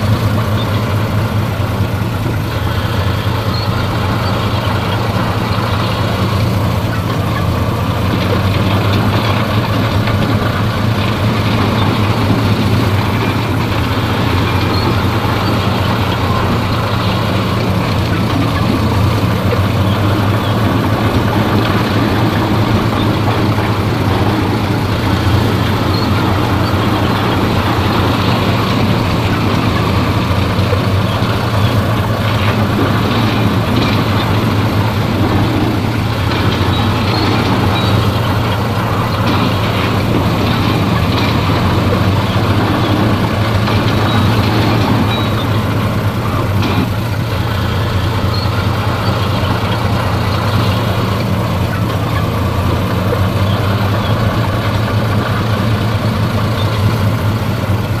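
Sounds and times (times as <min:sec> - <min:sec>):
diesel machinery engine hum: 0:00.0 - 0:58.0.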